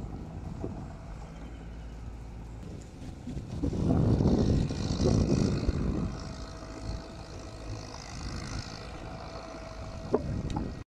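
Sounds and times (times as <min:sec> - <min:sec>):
tractor engine rumbling: 0:00.0 - 0:10.8.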